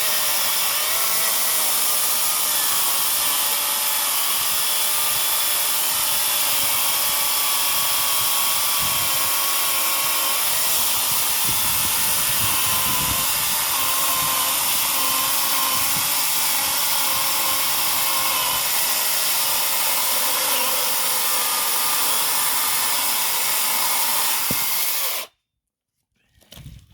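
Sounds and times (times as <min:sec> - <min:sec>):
electric chainsaw whining: 0:00.0 - 0:25.3.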